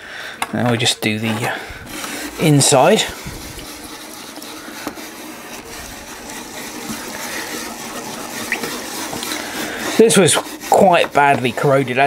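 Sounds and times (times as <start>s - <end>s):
wire brush scrubbing metal: 0.6s - 12.0s
liquid sloshing in metal tray: 1.4s - 12.0s.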